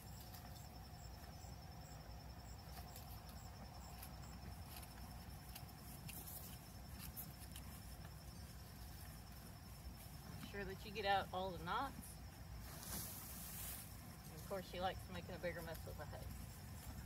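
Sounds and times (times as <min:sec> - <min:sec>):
insects chirping: 0:00.0 - 0:17.0
soft scratchy rustles: 0:02.6 - 0:17.0.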